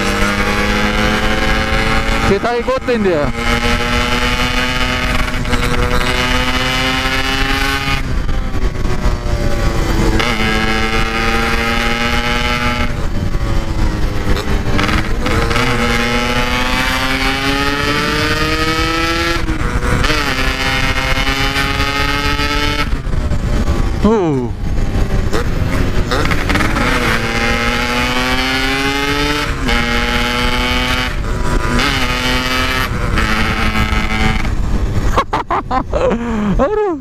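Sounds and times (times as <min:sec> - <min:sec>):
motorcycle engine accelerating: 0:00.0 - 0:36.7.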